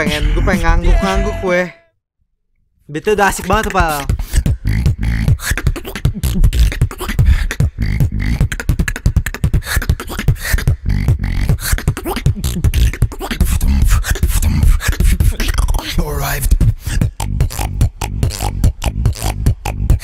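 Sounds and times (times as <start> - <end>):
person beatboxing: 0.0 - 1.3, 3.1 - 20.0.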